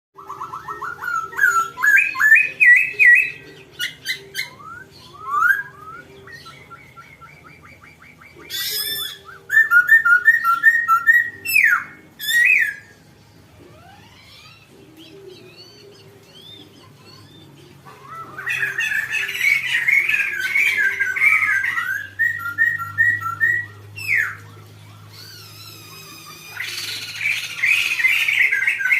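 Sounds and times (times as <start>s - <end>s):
songbird singing: 0.2s - 28.9s.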